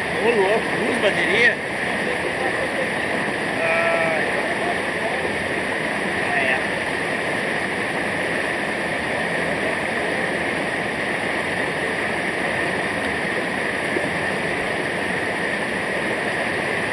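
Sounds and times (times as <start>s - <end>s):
waterfall roaring: 0.0s - 16.9s.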